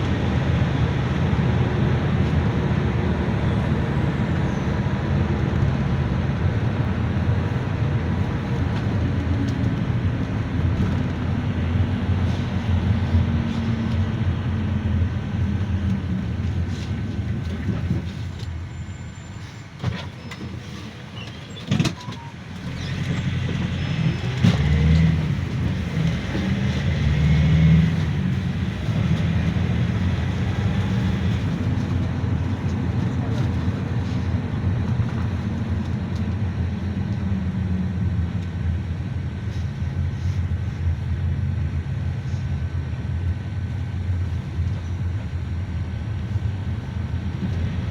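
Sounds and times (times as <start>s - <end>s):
engine and road rumble: 0.0s - 47.9s.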